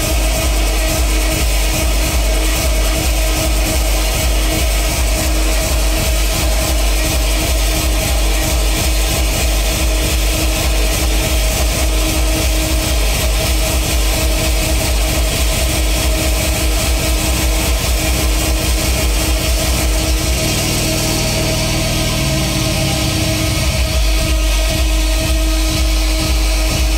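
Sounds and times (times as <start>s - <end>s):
distorted electronic music: 0.0s - 26.9s.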